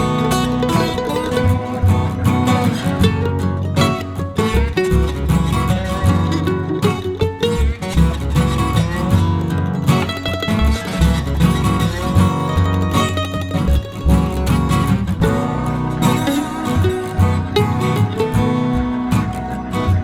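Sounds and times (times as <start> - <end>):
blues guitar music: 0.0 - 20.0
low bass notes: 0.0 - 20.0.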